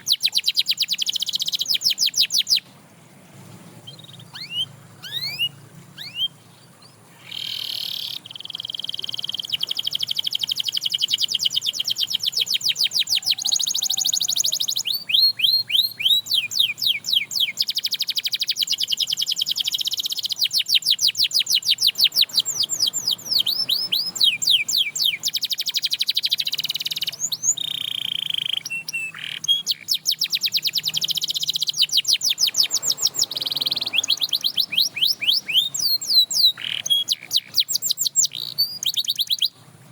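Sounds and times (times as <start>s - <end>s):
canary singing trills: 0.0s - 2.8s, 3.5s - 39.9s.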